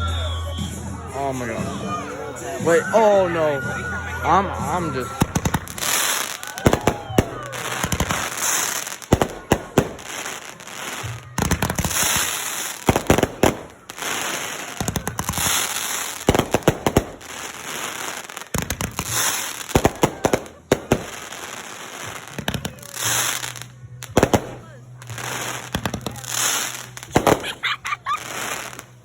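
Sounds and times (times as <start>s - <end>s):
fireworks pops and bangs: 5.1s - 29.0s.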